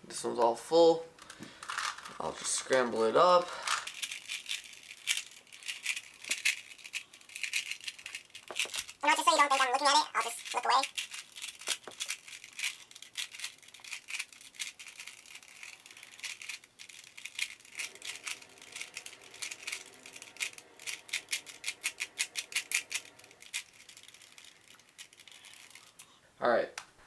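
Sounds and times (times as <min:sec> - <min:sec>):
puzzle cube clicking: 0:03.6 - 0:26.0.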